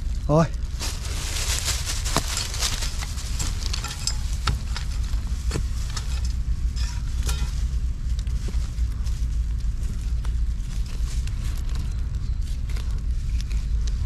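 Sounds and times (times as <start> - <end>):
rustling in undergrowth: 0.0 - 14.0
steady low rumble: 0.0 - 14.0.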